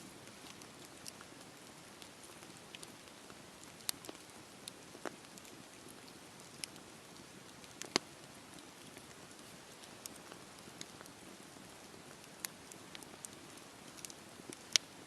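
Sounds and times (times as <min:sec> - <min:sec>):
burning wood crackling and popping: 0:00.0 - 0:15.0
campfire hissing: 0:00.1 - 0:15.0.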